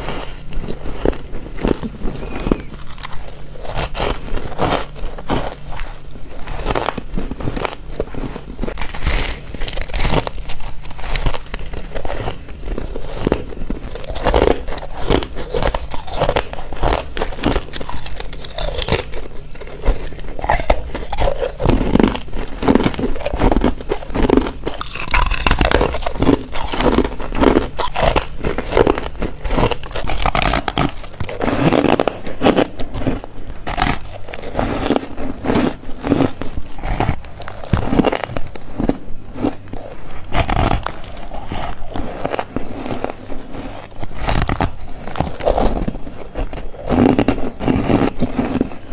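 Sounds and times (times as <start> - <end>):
person chewing ice: 0.0 - 48.9.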